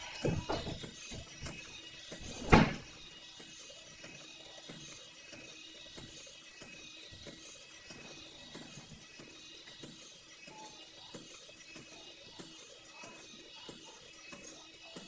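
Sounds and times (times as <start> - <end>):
toy robot motor with clicks: 0.0 - 15.0.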